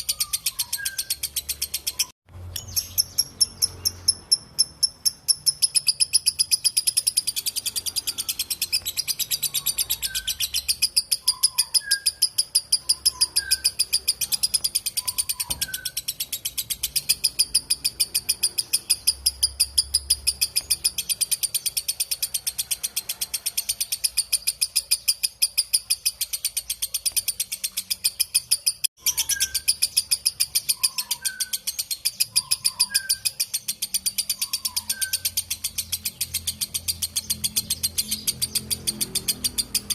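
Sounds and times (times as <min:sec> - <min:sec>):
lovebird chattering shrilly: 0:00.0 - 0:02.1, 0:02.8 - 0:26.6, 0:27.2 - 0:39.9
faint bird chirps: 0:00.0 - 0:39.9.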